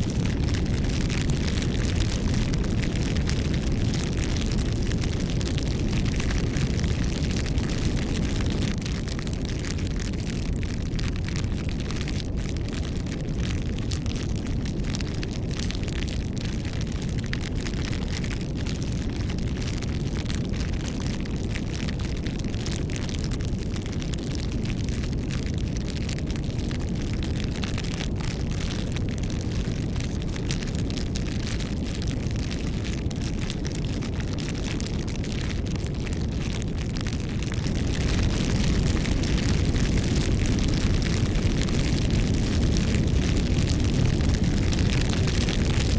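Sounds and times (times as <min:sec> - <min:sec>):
bonfire crackling and popping: 0:00.0 - 0:45.9
low rumble of flames: 0:00.0 - 0:45.9.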